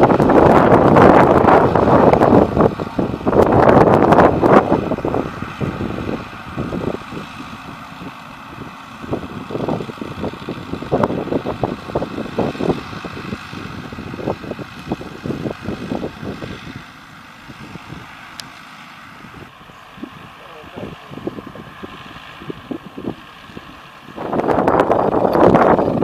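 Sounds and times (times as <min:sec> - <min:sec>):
loud rush: 0:00.0 - 0:24.8
tractor diesel engine running: 0:00.0 - 0:26.0.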